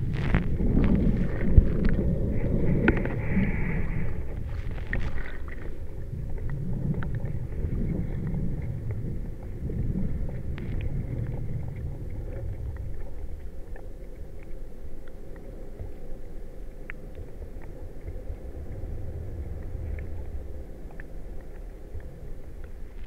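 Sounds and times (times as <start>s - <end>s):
faint underwater clicks: 0.0s - 23.0s
low underwater rumble: 0.0s - 23.0s.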